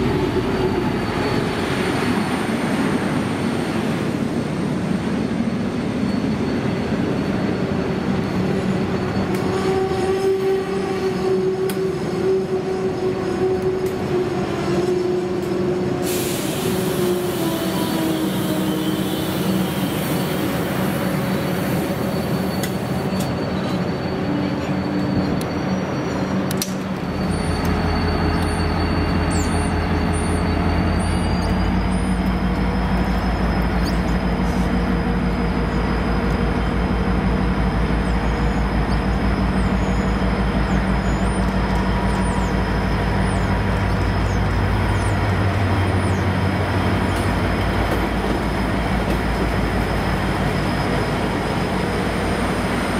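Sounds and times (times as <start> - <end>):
diesel locomotive engine rumbling: 0.0 - 52.9
train carriages rolling on rails: 0.0 - 52.9.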